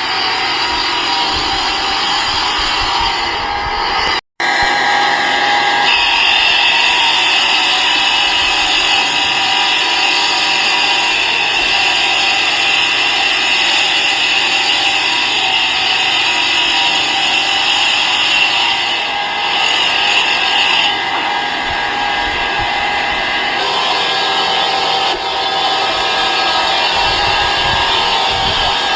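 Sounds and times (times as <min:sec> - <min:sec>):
high whine: 0:00.0 - 0:28.9
workshop machine running: 0:00.0 - 0:28.9.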